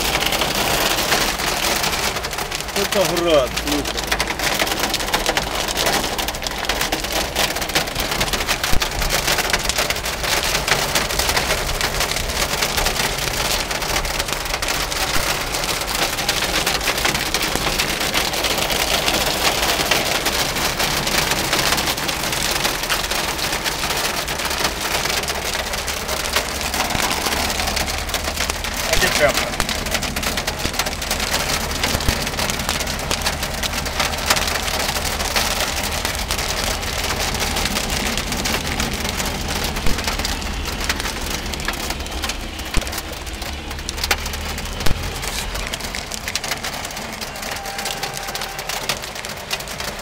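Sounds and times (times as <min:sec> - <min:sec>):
hail and rain on car roof: 0:00.0 - 0:50.0.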